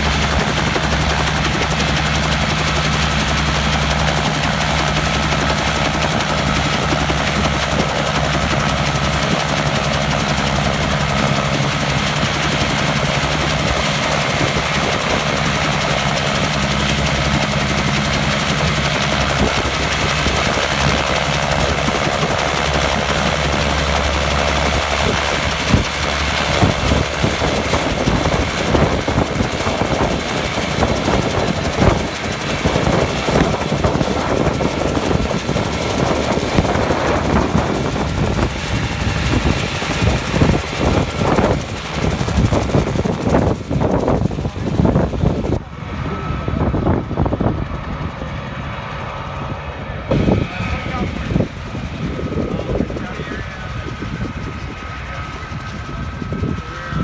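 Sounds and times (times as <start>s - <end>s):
helicopter engine idling: 0.0s - 57.0s.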